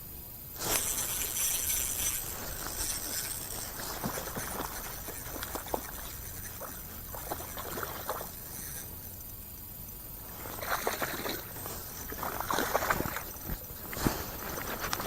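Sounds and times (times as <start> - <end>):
water splashing: 0.6 - 8.8, 10.3 - 15.0.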